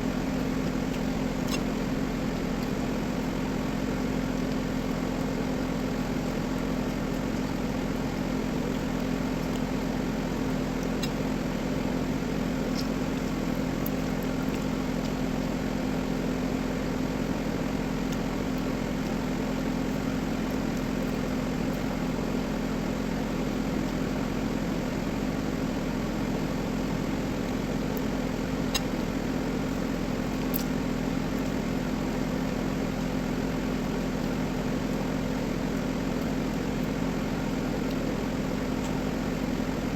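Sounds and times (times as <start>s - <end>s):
mechanical hum: 0.0s - 39.9s.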